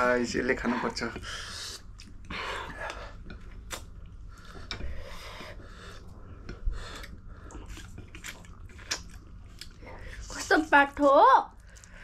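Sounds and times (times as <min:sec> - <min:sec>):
quiet chewing: 0:01.6 - 0:11.0, 0:11.6 - 0:12.0.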